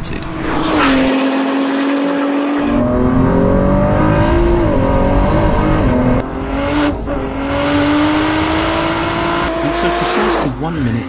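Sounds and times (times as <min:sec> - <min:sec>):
race car engine accelerating: 0:00.1 - 0:10.8.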